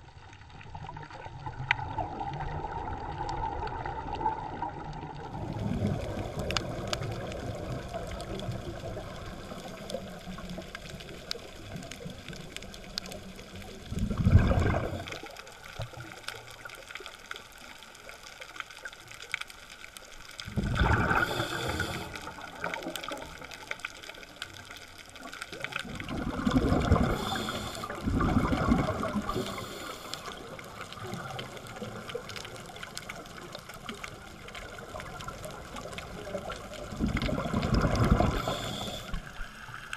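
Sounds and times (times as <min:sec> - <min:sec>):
low underwater background: 0:00.0 - 0:39.9
underwater exhaust bubbles gurgling: 0:00.0 - 0:39.9.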